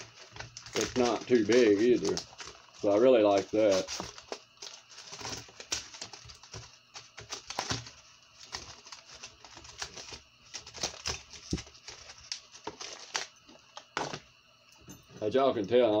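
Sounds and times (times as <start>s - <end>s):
plastic packaging crackling: 0.0s - 14.2s.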